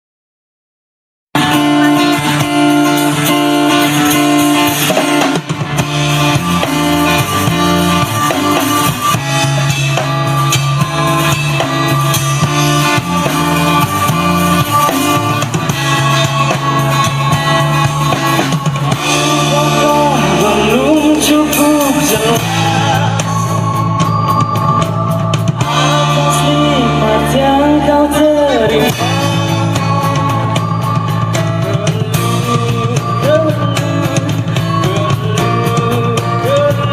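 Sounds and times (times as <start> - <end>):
bass guitar: 1.4 - 36.9
drum kit: 1.4 - 36.9
guitars: 1.4 - 36.9.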